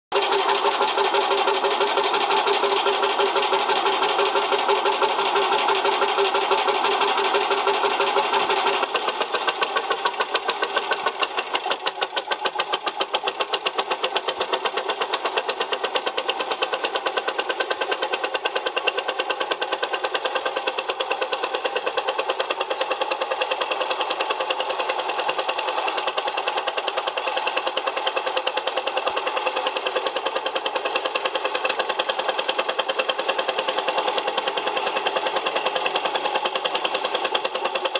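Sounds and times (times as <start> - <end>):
tractor engine knocking: 0.1 - 37.9.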